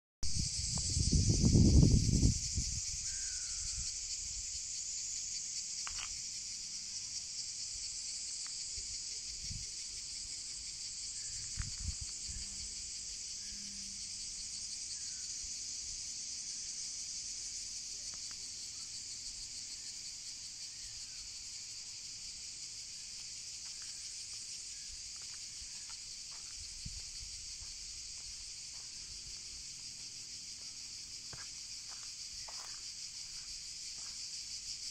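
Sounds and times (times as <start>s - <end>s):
insects buzzing: 0.2s - 34.9s.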